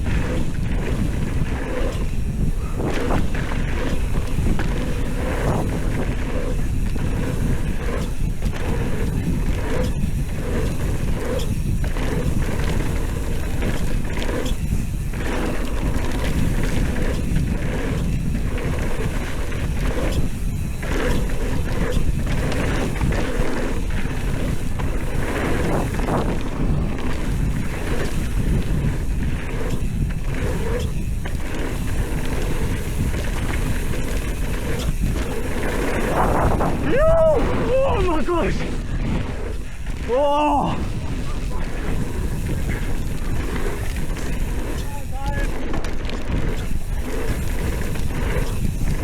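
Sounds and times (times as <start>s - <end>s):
bike tyres rumbling over dirt: 0.0s - 49.0s
wind buffeting microphone: 0.0s - 49.0s.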